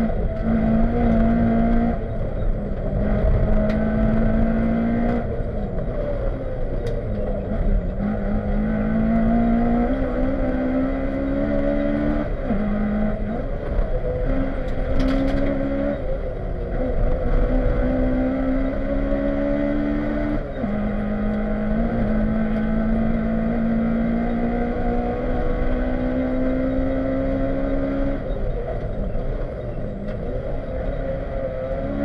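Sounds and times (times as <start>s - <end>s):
car engine revving through gears: 0.0s - 32.0s
road and tyre rumble: 0.0s - 32.0s.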